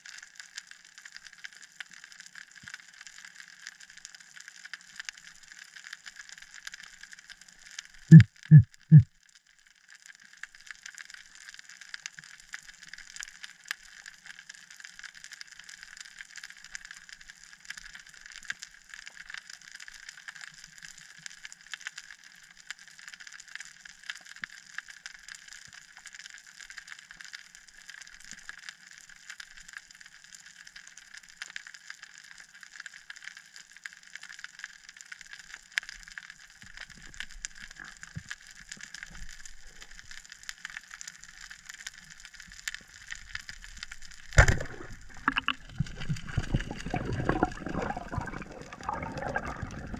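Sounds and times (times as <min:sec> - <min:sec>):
faint underwater crackling clicks: 0:00.0 - 0:49.9.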